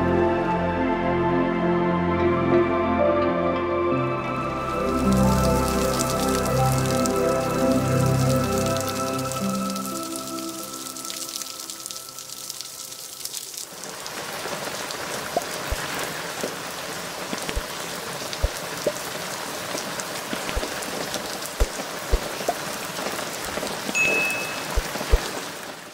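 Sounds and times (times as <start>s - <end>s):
heavy rain on wet ground: 4.3s - 25.9s.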